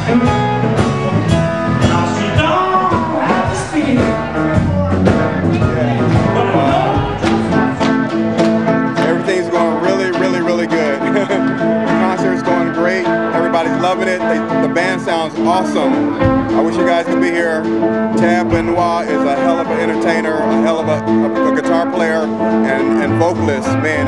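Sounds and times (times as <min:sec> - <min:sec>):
blues band playing: 0:00.0 - 0:24.0.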